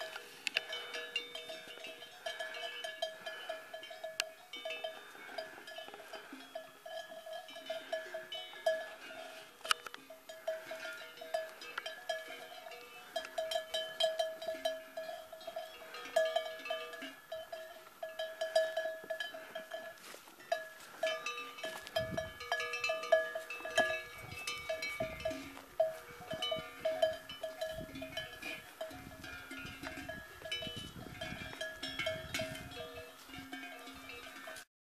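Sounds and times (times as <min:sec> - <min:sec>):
cowbells clanking: 0:00.0 - 0:34.7.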